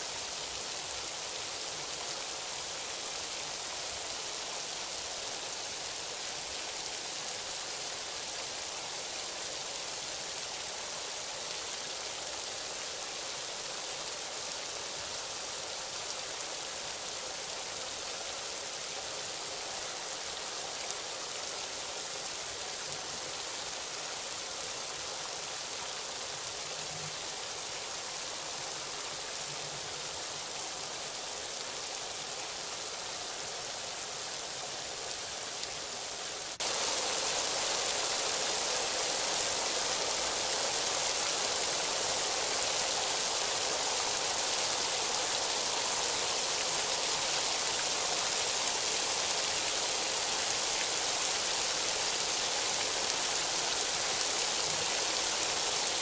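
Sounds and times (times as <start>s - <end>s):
steady rain hissing: 0.0s - 56.0s.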